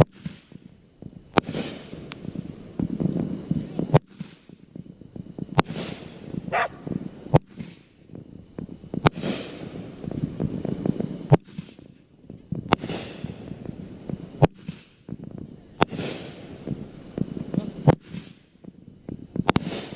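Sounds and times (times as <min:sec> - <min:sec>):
crackling hiss of fireworks: 0:00.0 - 0:19.9
firework bangs: 0:00.0 - 0:19.9.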